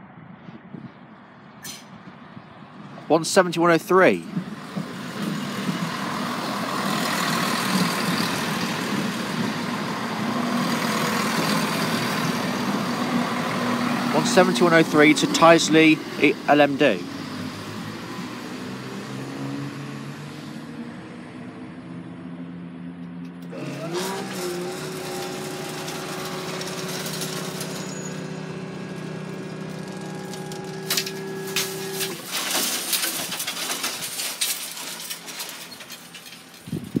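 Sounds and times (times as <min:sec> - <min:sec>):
diesel train engine: 0:01.2 - 0:37.0
crossing barrier motor hum: 0:01.7 - 0:37.0.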